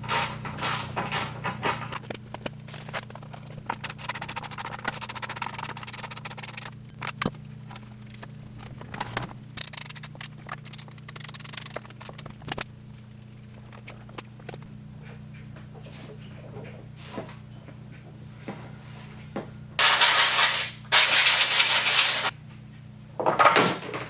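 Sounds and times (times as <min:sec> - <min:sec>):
low steady hum: 0:00.0 - 0:19.8.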